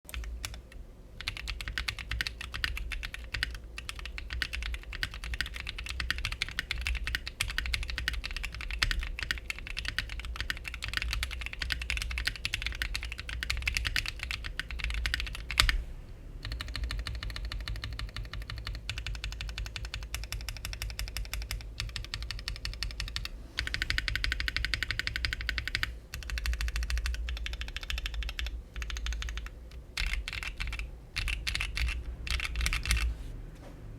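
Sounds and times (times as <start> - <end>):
mechanical keyboard typing: 0.1 - 15.8, 16.4 - 33.1.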